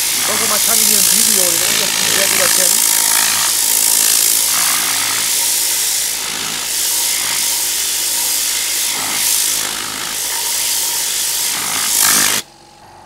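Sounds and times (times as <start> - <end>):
compressed air gun hissing: 0.0 - 12.5.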